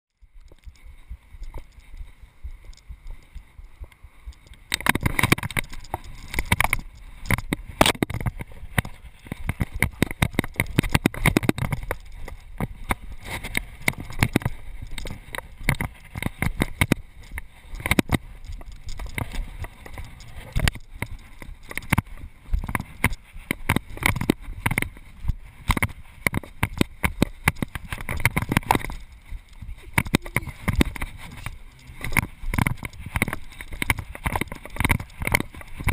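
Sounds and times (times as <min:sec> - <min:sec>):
wind and body movement rumble: 0:00.1 - 0:35.9.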